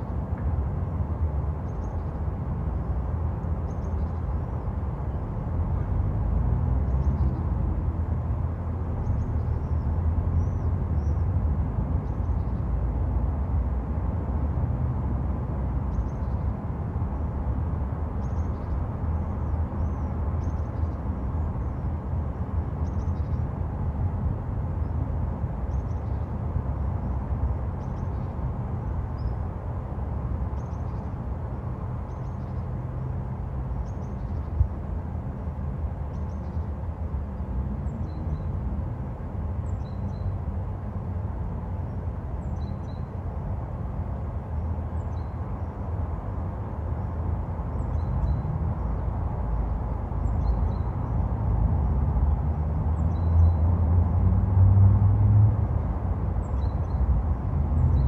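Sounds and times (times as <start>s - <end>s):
low rumble of road traffic: 0.0s - 58.0s.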